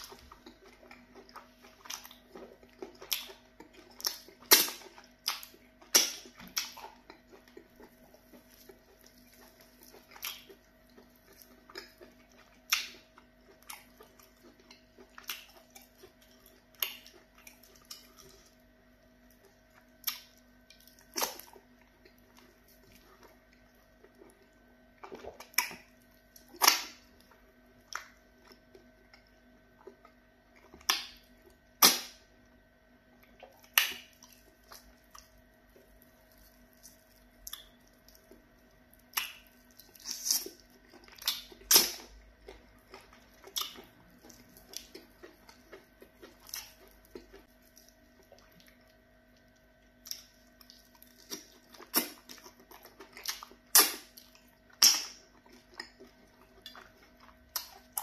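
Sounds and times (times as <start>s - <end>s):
chewing: 0.0s - 32.1s, 33.2s - 58.0s.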